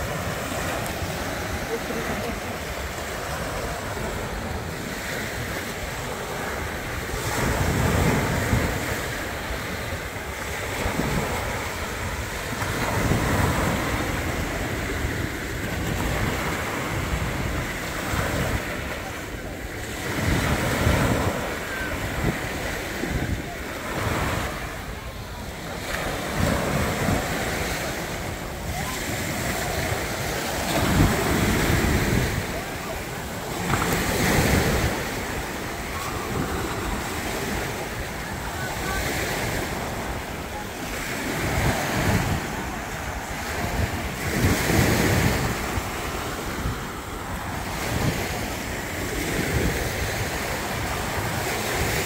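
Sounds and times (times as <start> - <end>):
small waves breaking on shore: 0.0 - 52.0
wind buffeting microphone: 0.0 - 52.0.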